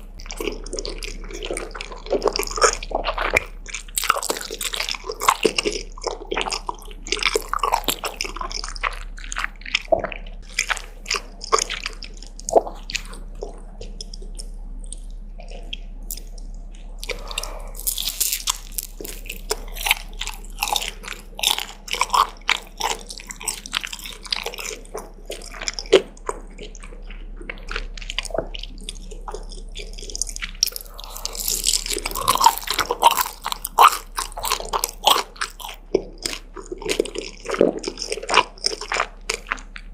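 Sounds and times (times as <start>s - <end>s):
wet chewing and biting: 0.0s - 39.9s.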